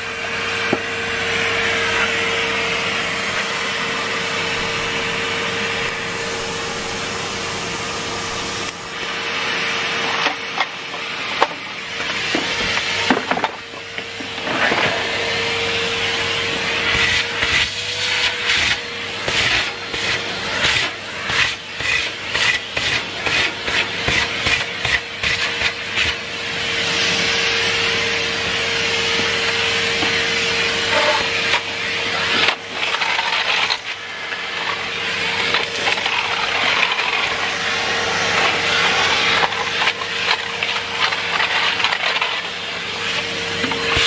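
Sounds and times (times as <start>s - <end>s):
floor tool scraping concrete: 0.0s - 7.1s, 8.3s - 44.0s
vacuum cleaner running: 0.0s - 44.0s.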